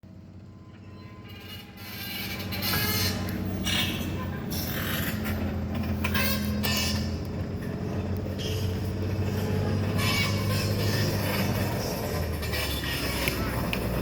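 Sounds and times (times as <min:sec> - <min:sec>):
heavy machinery engine hum: 0:00.0 - 0:14.0
machinery creaking: 0:00.8 - 0:14.0.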